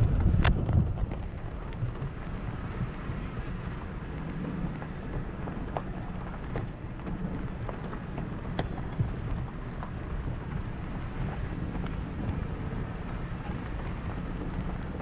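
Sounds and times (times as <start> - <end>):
gravel clicks: 0.0 - 15.0
tyres rumbling on dirt road: 0.0 - 15.0.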